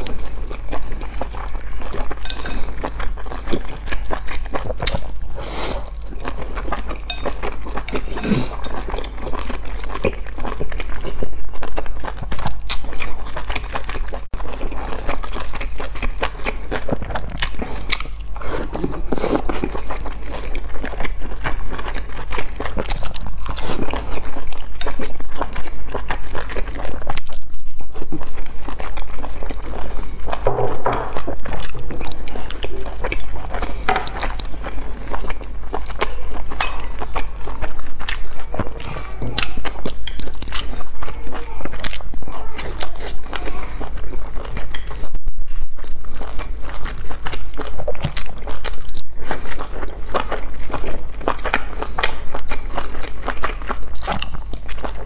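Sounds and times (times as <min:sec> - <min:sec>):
steady low hum: 0:00.0 - 0:55.0
wet chewing mouth sounds: 0:00.0 - 0:55.0.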